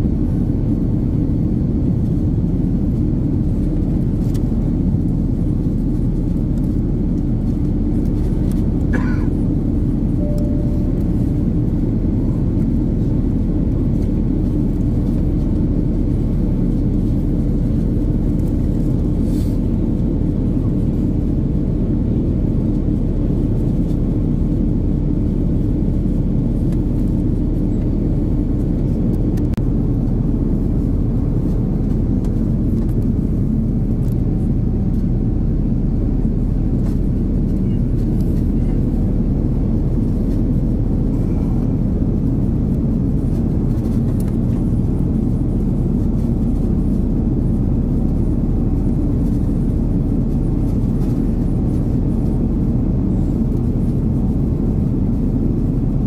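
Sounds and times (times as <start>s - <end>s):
aircraft cabin engine rumble: 0.0s - 56.0s
faint steady hum: 0.0s - 56.0s.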